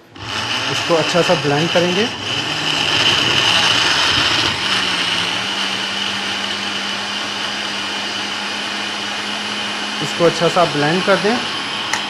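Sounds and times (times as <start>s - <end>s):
blender crushing ice: 0.0s - 12.0s.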